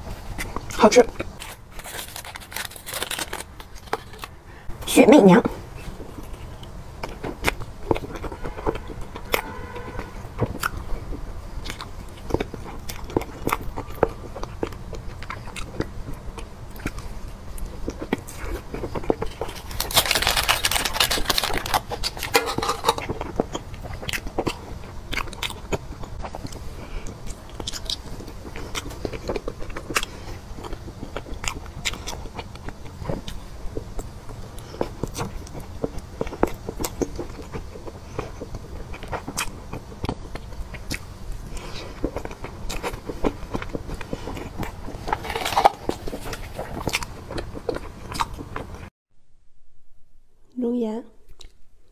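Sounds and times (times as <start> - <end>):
person chewing soft food: 0.0 - 4.7, 5.6 - 48.9.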